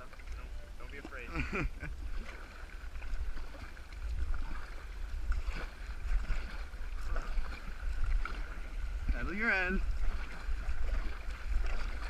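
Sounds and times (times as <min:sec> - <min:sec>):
water moving around a kayak: 0:00.0 - 0:12.0
wind buffeting microphone: 0:00.0 - 0:12.0.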